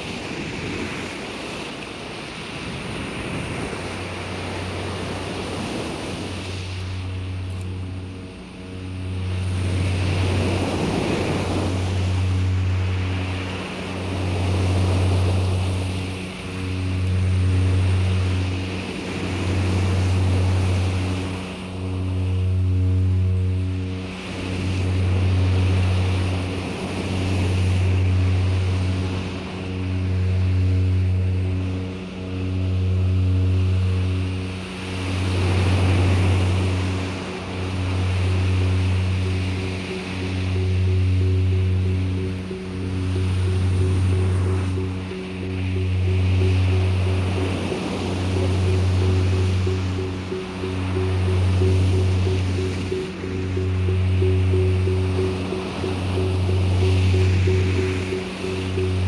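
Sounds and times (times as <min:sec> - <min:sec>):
low ambient drone: 0:00.0 - 0:59.0
surf-like noise wash: 0:00.0 - 0:59.0.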